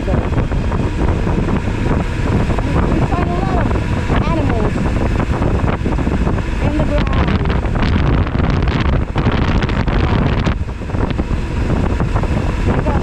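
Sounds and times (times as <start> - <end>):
motorcycle engine and road rumble: 0.0 - 13.0
wind rushing over microphone: 0.0 - 13.0.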